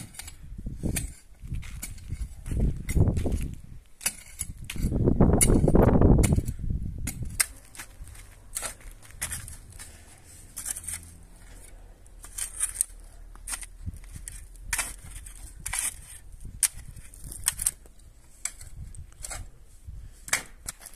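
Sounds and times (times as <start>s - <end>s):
shovel digging into hard soil: 0.0s - 17.8s, 20.3s - 20.9s.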